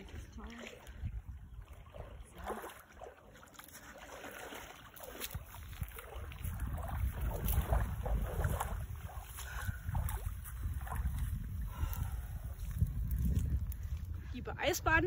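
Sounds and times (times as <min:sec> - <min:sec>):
wind buffeting microphone: 0:00.0 - 0:02.5, 0:05.2 - 0:15.0
small waves lapping: 0:00.0 - 0:14.3
wading and splashing in water: 0:00.0 - 0:14.4.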